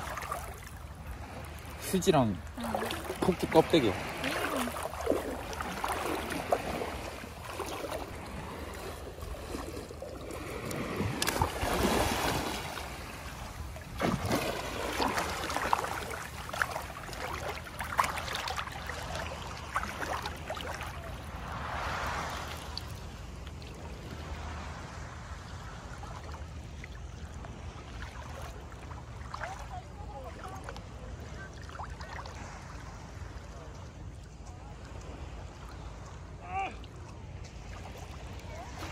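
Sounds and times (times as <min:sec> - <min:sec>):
water splashing from swimming: 0:00.0 - 0:24.8, 0:25.9 - 0:33.0
low water wash: 0:00.0 - 0:38.9.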